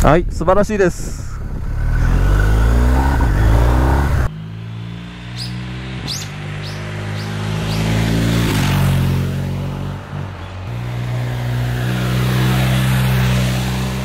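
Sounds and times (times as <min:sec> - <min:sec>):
motorcycle riding past: 0:01.4 - 0:14.0.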